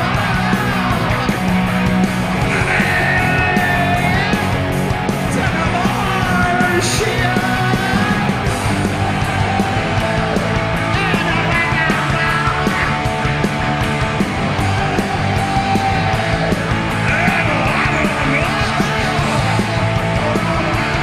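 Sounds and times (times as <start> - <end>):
shouted vocals: 0.0 - 1.3, 2.3 - 21.0
punk rock band playing live: 0.0 - 21.0.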